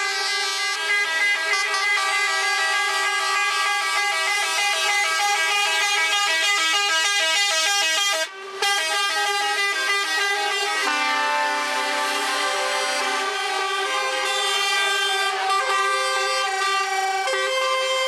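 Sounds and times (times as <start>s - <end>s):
low horn: 0.0s - 18.0s
truck horns sounding: 0.0s - 18.0s.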